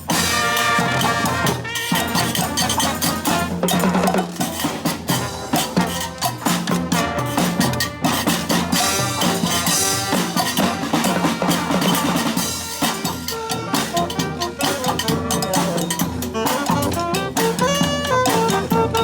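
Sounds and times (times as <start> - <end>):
brass band playing: 0.0 - 19.0
drums and percussion beat: 0.0 - 19.0.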